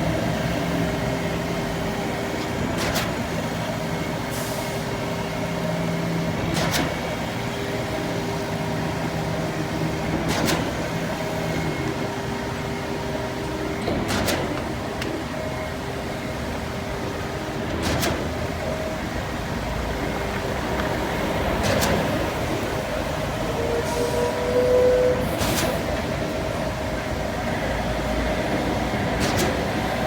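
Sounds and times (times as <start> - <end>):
pump truck engine drone: 0.0 - 30.0.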